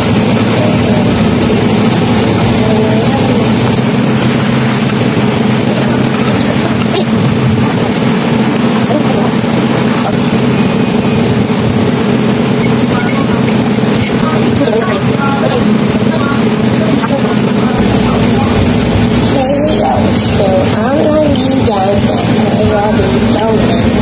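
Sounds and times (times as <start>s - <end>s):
loud mechanical hum with hiss: 0.0s - 24.0s.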